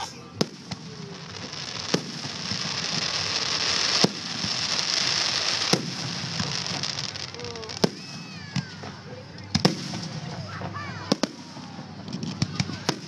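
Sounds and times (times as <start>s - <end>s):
crackling firework stars hiss: 0.0s - 13.0s.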